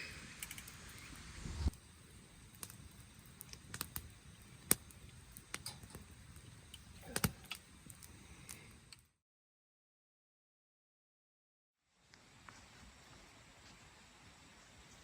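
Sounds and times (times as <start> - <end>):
faint hiss: 0.0 - 9.1, 11.8 - 15.0.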